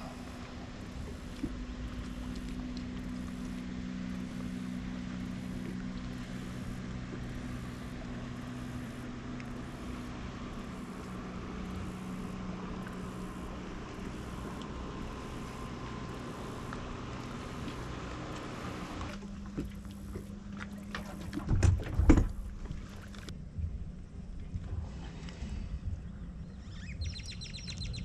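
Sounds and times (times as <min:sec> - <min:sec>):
motor hum: 0:00.0 - 0:28.0.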